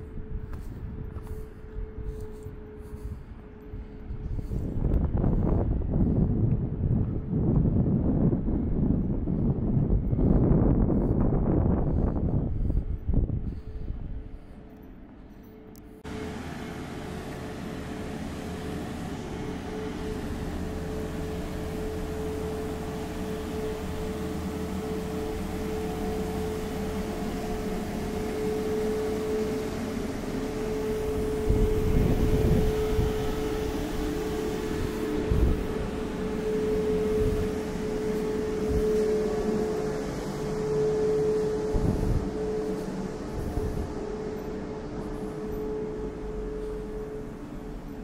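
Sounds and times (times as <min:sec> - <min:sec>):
machine humming: 0:00.0 - 0:48.0.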